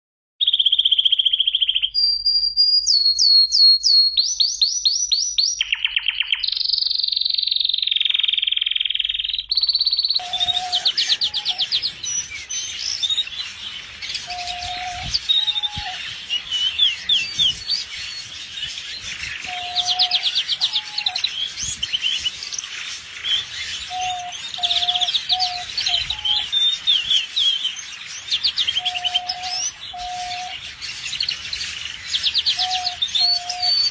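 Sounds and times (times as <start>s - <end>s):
canary singing trills: 0.4s - 33.9s.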